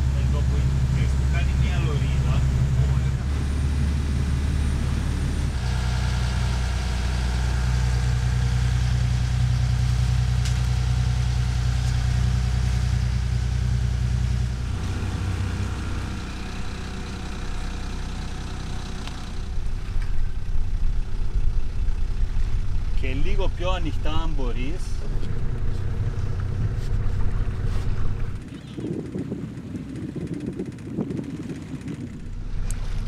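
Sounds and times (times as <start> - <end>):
motor boat engine droning: 0.0 - 33.0.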